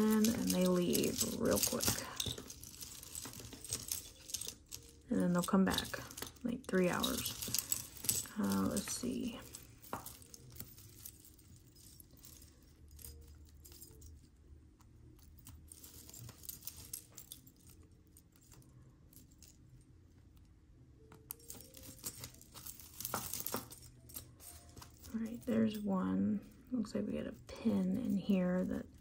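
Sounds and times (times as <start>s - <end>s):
metal chains clinking: 0.0s - 14.4s, 15.1s - 19.8s, 21.0s - 29.0s.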